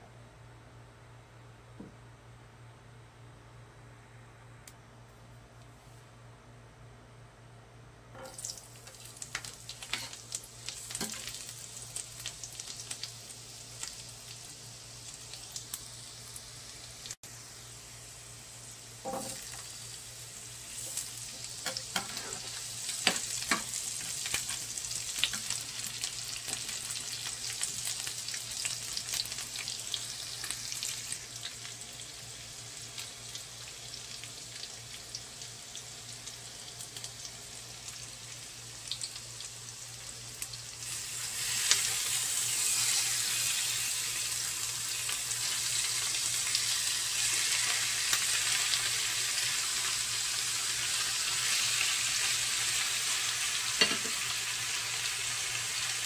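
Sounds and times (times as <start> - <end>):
garlic and onion sizzling in oil: 8.2 - 56.0.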